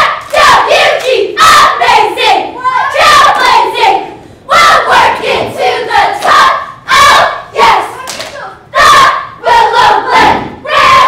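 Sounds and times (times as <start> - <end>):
cheer squad shouting: 0.0 - 11.0.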